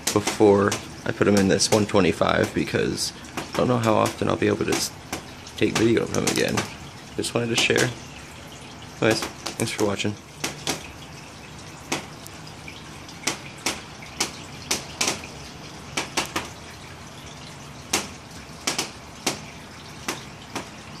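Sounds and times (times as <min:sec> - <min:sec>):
faint steady background noise: 0:00.0 - 0:21.0
water dripping: 0:00.0 - 0:21.0.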